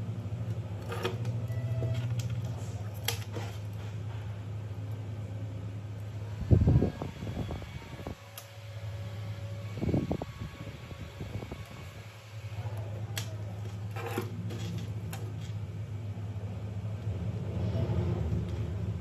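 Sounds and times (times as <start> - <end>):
cooling fan humming: 0.0 - 19.0
low rumbles of fan handling: 0.0 - 19.0.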